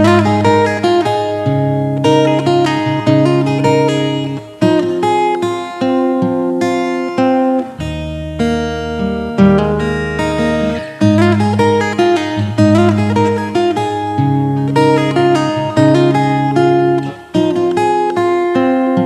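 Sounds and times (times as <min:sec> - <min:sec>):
acoustic guitar picking chords: 0:00.0 - 0:19.0.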